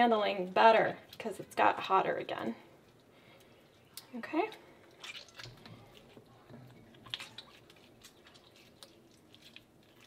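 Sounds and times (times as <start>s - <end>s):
hands kneading wet cheese: 0.3s - 10.0s.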